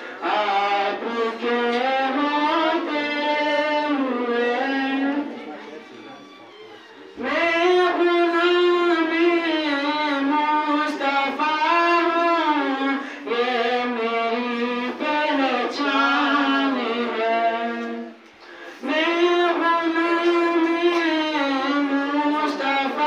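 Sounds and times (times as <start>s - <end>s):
boy chanting into a microphone: 0.0s - 5.6s, 7.2s - 18.2s, 18.8s - 23.0s.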